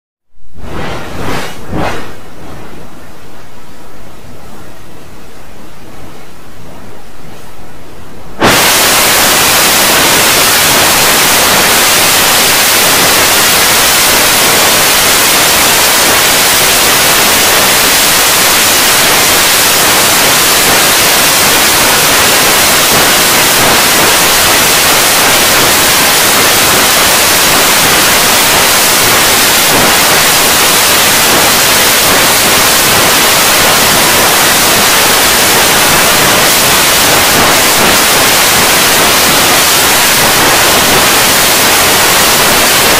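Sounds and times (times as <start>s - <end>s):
loud static hiss: 0.3s - 42.9s.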